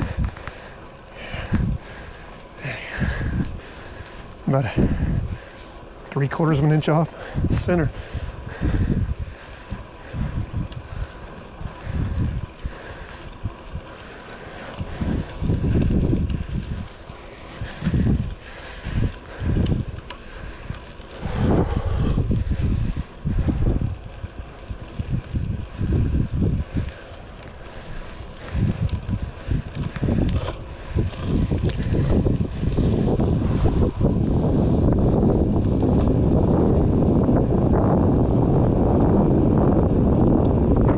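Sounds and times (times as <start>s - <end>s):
tyres rolling on asphalt: 0.0s - 40.9s
wind buffeting microphone: 0.0s - 40.9s.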